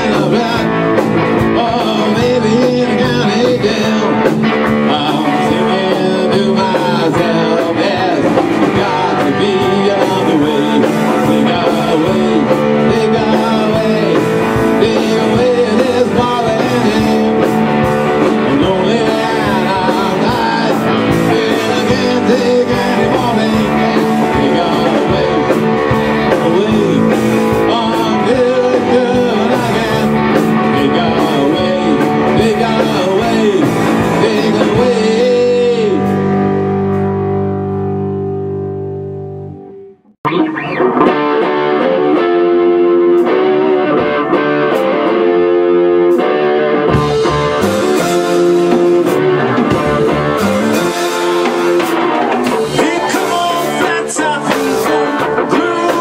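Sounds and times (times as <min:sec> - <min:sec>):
drum kit: 0:00.0 - 0:56.0
electric bass: 0:00.0 - 0:56.0
electric guitars: 0:00.0 - 0:56.0.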